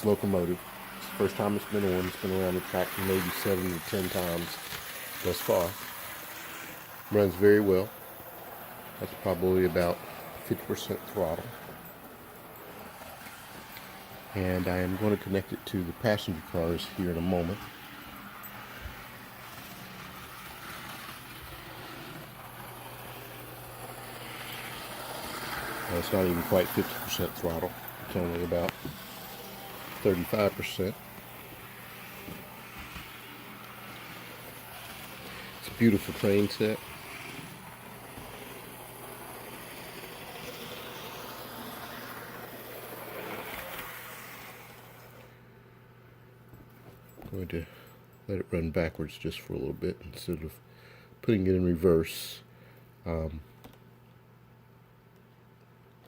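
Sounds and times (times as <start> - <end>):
model train motor humming: 0.0 - 45.3
model train wheels rolling: 0.0 - 45.3.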